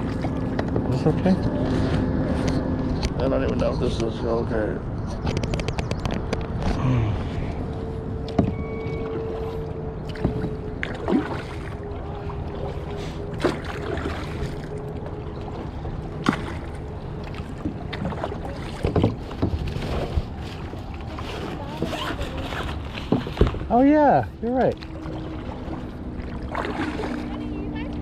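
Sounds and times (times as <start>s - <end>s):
paddle dipping and splashing: 0.0s - 1.0s, 5.3s - 27.9s
steady water noise: 0.0s - 28.0s.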